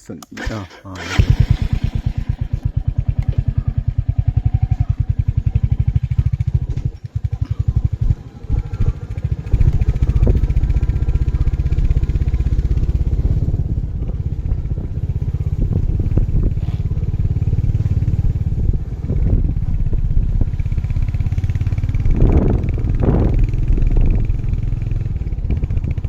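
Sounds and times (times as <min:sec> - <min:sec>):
motorcycle engine running: 0:00.4 - 0:26.0.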